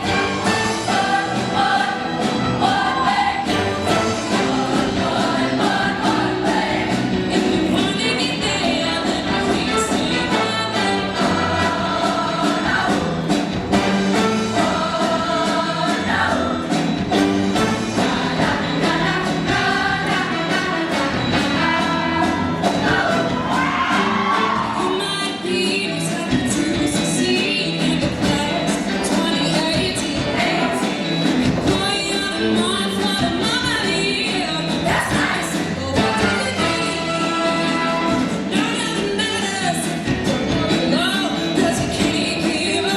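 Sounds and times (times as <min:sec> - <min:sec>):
choir singing in harmony: 0:00.0 - 0:25.5, 0:26.8 - 0:42.9
live band with drums and bass: 0:00.0 - 0:42.9.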